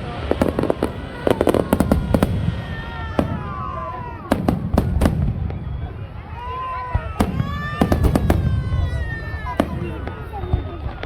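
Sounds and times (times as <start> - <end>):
fireworks crackling bursts: 0.0 - 11.0
fireworks falling whistles: 0.0 - 11.0
fireworks sharp bangs: 0.0 - 11.0.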